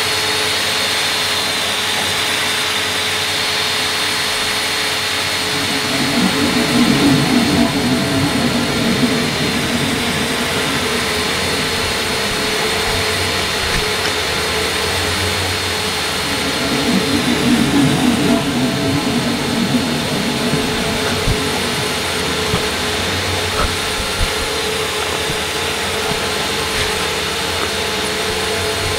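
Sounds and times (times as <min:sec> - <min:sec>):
loud droning noise: 0:00.0 - 0:28.9.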